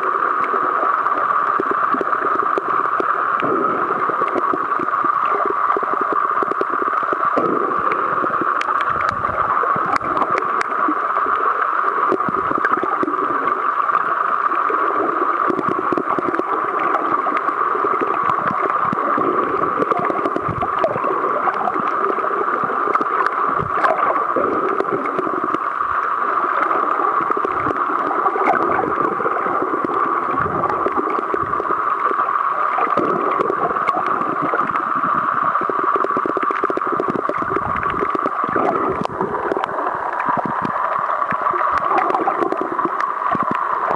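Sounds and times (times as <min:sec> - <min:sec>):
gurgling water: 0:00.0 - 0:43.9
underwater rushing noise: 0:00.0 - 0:43.9
faint clicks: 0:00.3 - 0:14.7, 0:15.4 - 0:43.9.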